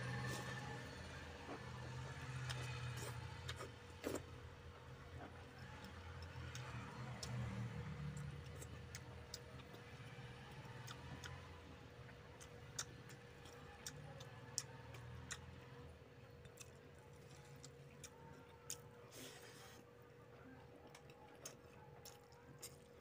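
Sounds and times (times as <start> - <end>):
chewing clicks and smacks: 1.5 - 19.1, 20.3 - 23.0.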